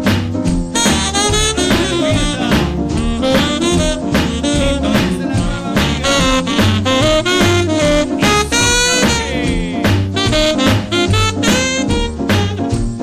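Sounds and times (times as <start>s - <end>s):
swing music with horns: 0.0s - 13.0s
saxophone: 0.7s - 13.0s.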